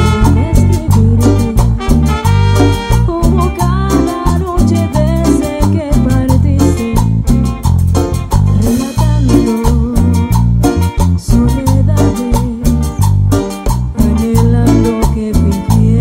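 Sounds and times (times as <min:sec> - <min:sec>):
salsa band playing: 0:00.0 - 0:16.0.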